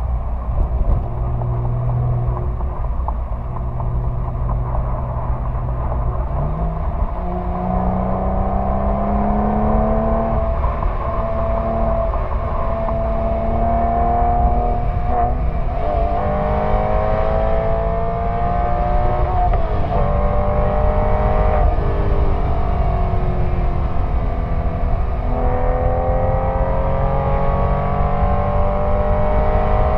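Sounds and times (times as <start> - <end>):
car exhaust accelerating: 0.0 - 29.9.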